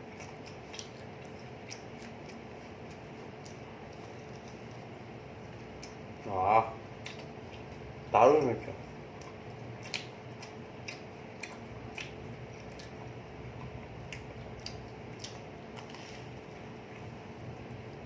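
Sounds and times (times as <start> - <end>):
chewing and biting sounds: 0.0 - 18.0
faint steady hum: 0.0 - 18.0.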